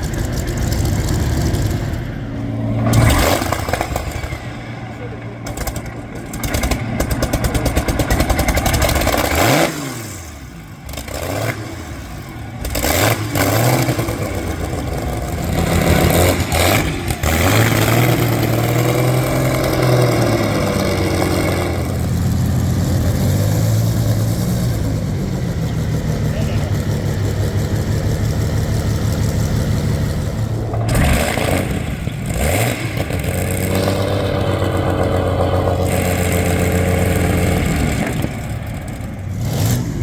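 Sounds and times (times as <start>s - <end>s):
loud engine revving: 0.0s - 40.0s.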